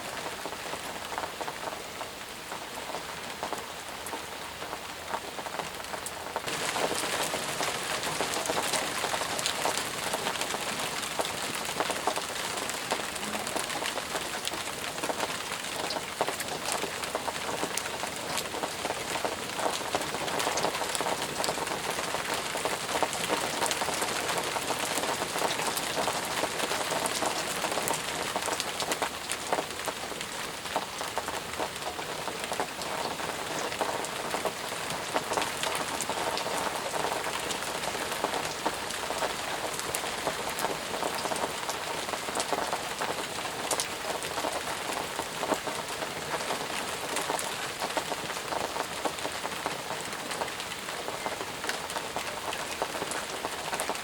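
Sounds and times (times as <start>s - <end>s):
intense rain falling: 0.0s - 54.0s.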